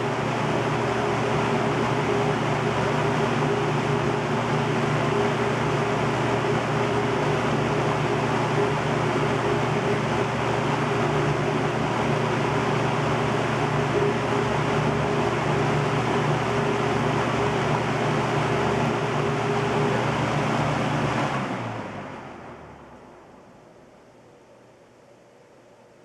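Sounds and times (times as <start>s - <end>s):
box fan running: 0.0s - 26.0s
low motor hum: 0.0s - 26.0s.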